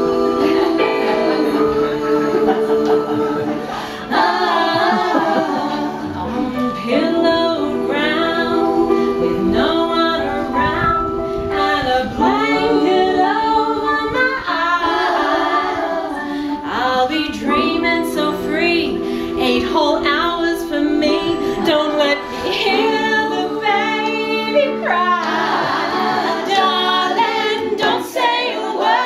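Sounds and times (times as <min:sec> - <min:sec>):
women singing in harmony: 0:00.0 - 0:29.0.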